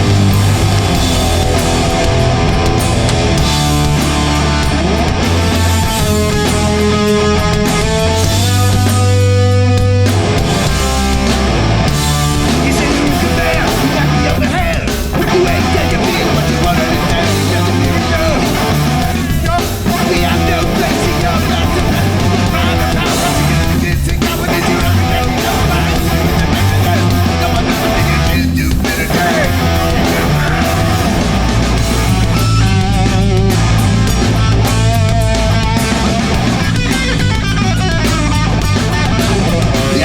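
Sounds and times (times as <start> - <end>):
distorted electric guitars: 0.0 - 40.0
punk band playing live: 0.0 - 40.0.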